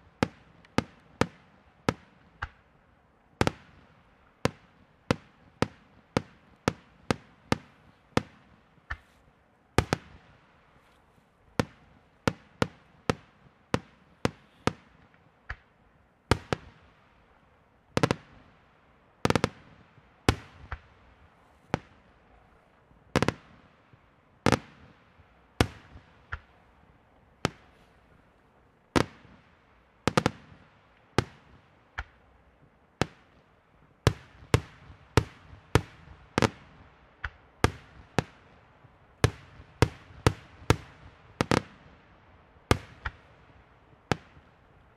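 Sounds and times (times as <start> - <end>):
fireworks bursting with echo: 0.0 - 2.7, 3.4 - 9.2, 9.8 - 10.9, 11.5 - 17.2, 18.0 - 32.4, 33.0 - 44.9.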